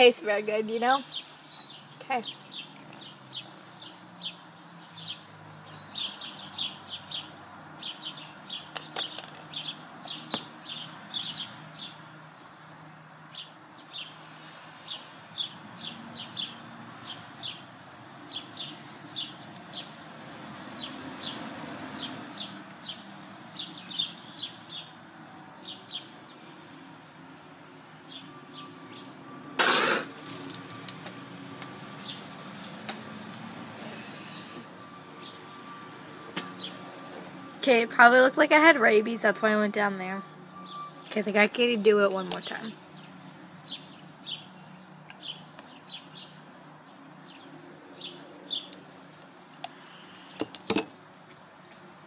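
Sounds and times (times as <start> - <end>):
small birds chirping: 0.0 - 35.8, 36.4 - 52.0.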